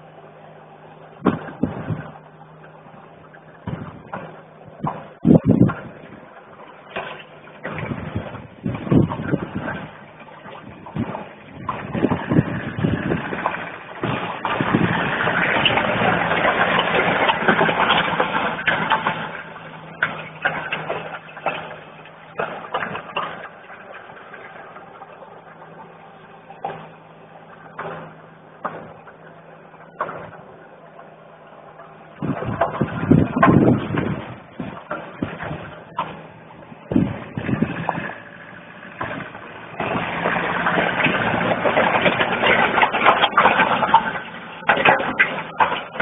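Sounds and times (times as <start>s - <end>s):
truck engine hum: 0.0s - 46.0s.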